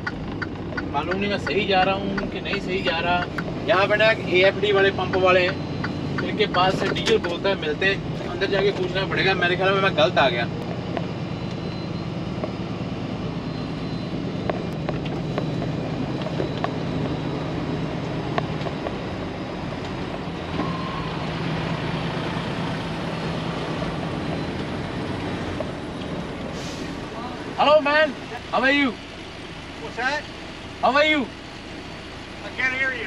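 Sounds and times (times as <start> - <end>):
truck diesel engine droning: 0.0 - 33.0.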